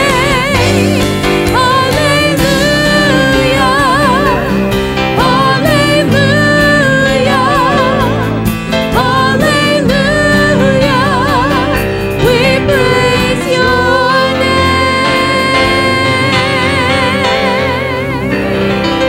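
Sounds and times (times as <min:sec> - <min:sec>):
gospel instrumental accompaniment: 0:00.0 - 0:19.0
singer with wide vibrato: 0:00.0 - 0:19.0.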